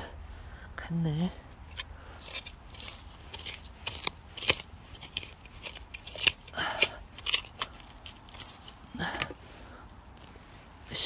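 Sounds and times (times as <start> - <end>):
dry leaves and soil crunching: 0.2 - 11.0.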